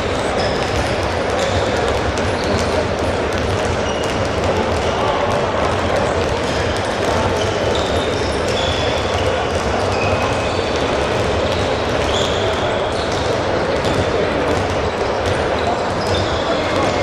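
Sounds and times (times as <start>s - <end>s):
balls bouncing on hall floor: 0.0s - 17.0s
shoes squeaking on court: 0.2s - 5.0s, 6.3s - 14.0s, 15.2s - 17.0s.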